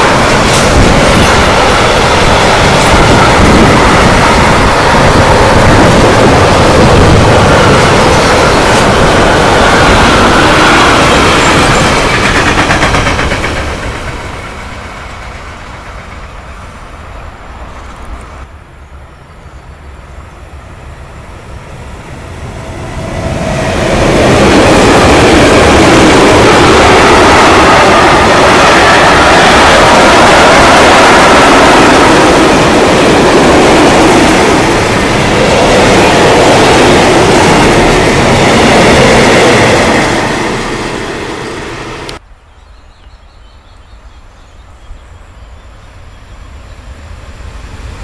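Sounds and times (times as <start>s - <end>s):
freight train wagons rumbling: 0.0s - 19.0s, 19.6s - 42.2s.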